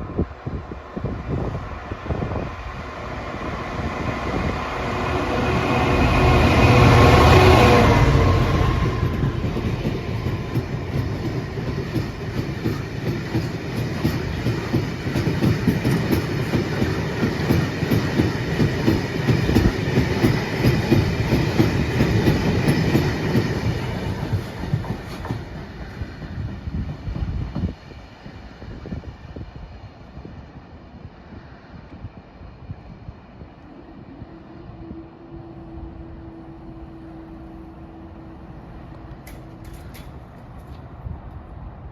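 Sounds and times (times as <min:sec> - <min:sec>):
diesel locomotive passing: 0:00.0 - 0:41.9.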